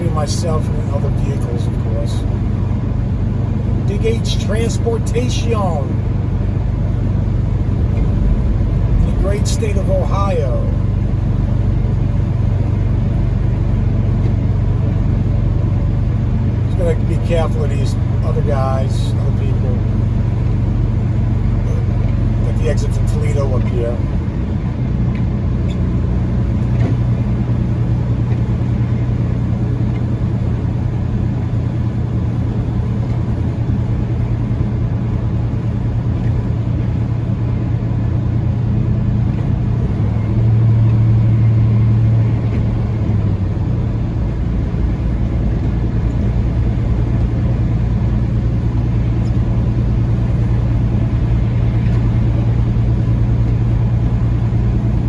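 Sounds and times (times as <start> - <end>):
road noise: 0.0 - 55.0
truck engine drone: 0.0 - 55.0.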